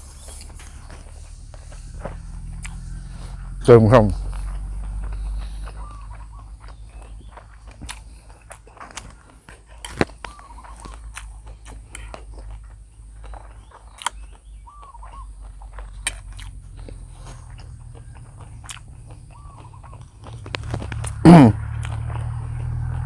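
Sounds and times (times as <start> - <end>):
person chewing noodles: 0.0 - 23.0
steady low hum: 0.0 - 23.0.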